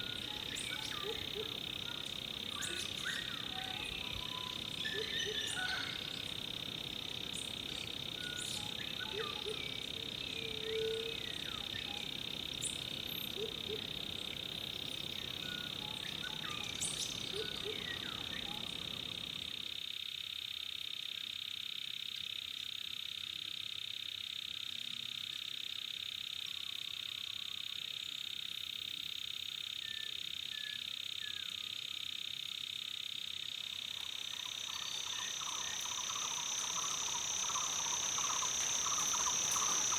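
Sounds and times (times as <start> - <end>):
frogs and insects chorus: 0.0 - 39.9.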